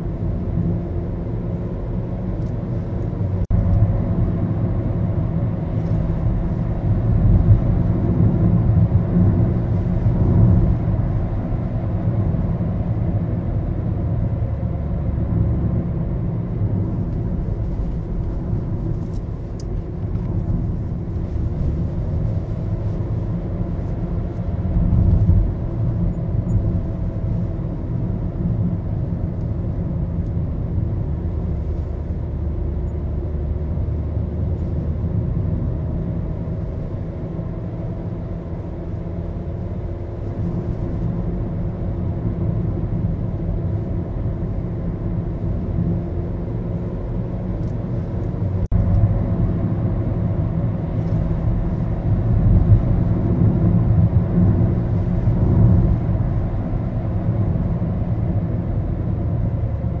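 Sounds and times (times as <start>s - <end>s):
car engine drone: 0.0s - 60.0s
road rumble: 0.0s - 60.0s.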